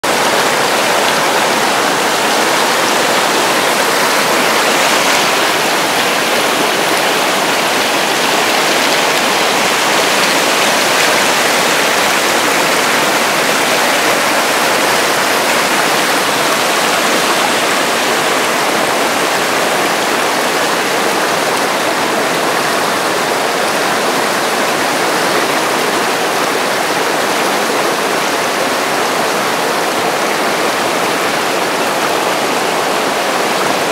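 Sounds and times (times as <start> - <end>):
creek rushing over rocks: 0.0 - 33.9.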